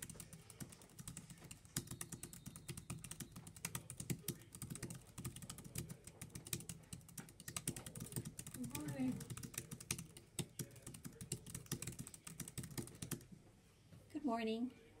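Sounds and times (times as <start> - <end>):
fast typing key clicks: 0.0 - 13.2.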